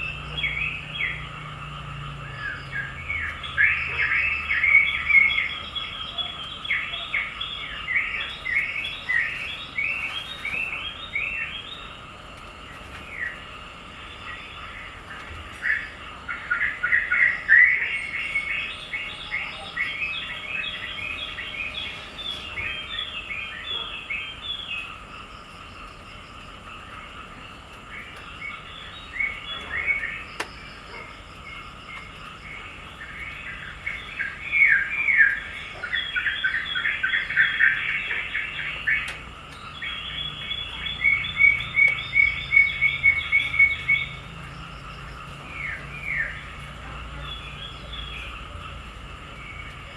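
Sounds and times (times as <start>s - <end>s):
faint outdoor background: 0.0s - 49.9s
small birds chirping: 0.0s - 49.9s.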